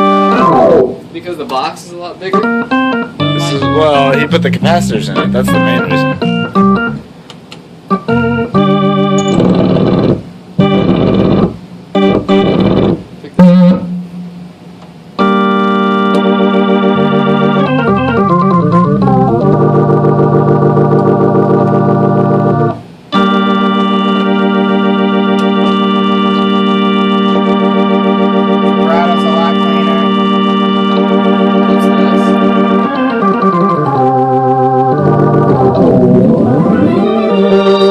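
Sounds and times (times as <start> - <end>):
organ playing held chords: 0.0 - 7.2, 7.8 - 37.9.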